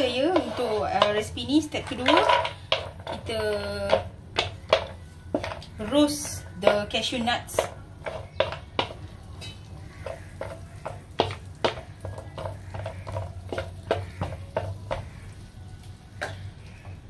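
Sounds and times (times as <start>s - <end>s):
wooden spatula scraping pan: 0.0s - 15.6s
butter sizzling: 0.0s - 17.0s.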